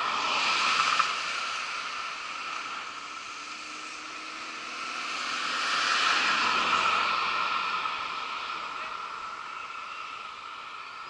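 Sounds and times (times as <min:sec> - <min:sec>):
car passing: 0:00.0 - 0:11.0.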